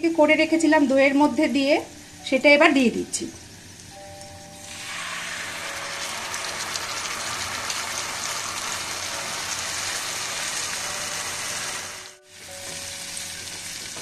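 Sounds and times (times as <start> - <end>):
sauce sizzling in hot oil: 0.1 - 14.0.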